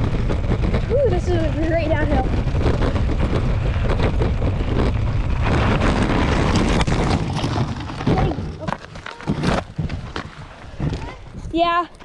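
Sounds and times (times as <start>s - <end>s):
bike tyres rolling on rocky dirt: 0.0s - 12.0s
knocks and scrapes on stony ground: 0.0s - 12.0s
wind buffeting microphone: 0.0s - 12.0s.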